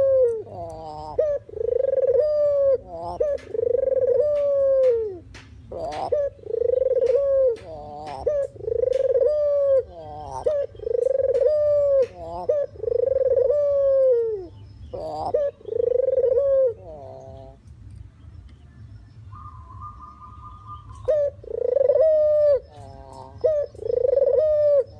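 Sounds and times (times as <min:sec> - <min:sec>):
collared dove cooing: 0:00.0 - 0:17.7, 0:19.3 - 0:24.9.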